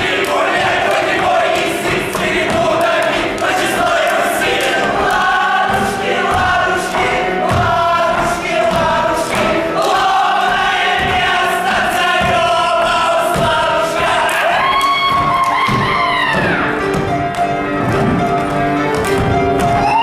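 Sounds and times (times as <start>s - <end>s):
vocal ensemble singing: 0.0s - 16.7s.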